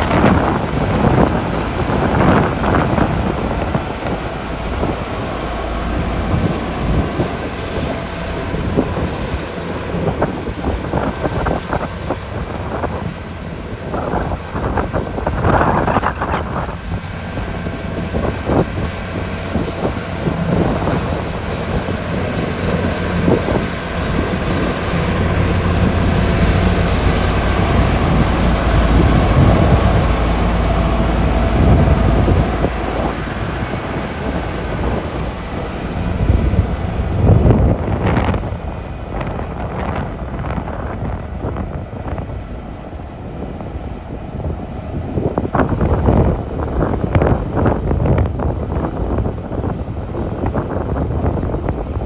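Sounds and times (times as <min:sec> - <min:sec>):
bulldozer diesel engine running: 0:00.0 - 0:52.0
wind buffeting microphone: 0:00.0 - 0:52.0.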